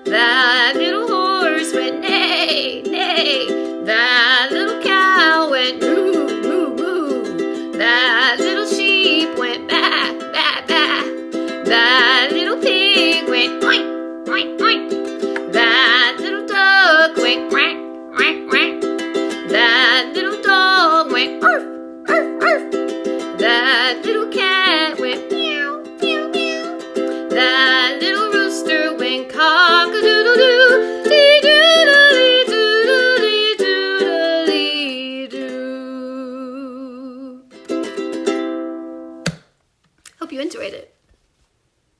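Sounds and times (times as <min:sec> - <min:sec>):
strummed ukulele chords: 0:00.0 - 0:36.8, 0:37.4 - 0:39.5
woman singing folk song: 0:00.0 - 0:38.3.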